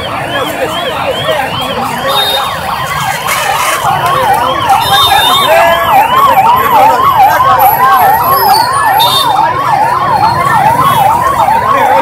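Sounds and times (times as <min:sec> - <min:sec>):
siren yelping: 0:00.0 - 0:12.0.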